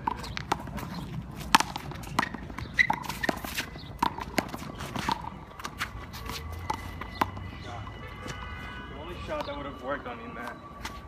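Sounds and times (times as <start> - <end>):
ball bouncing on pavement: 0.0 - 11.0
footsteps on court: 0.0 - 11.0.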